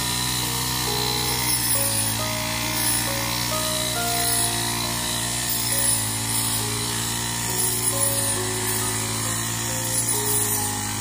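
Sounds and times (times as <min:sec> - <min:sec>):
background music: 0:00.0 - 0:11.0
harvester engine running: 0:00.0 - 0:11.0.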